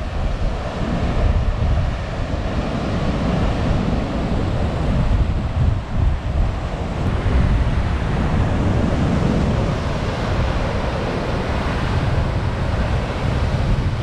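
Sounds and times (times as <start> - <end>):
heavy ocean surf: 0.0 - 14.0
wind buffeting microphone: 0.0 - 14.0.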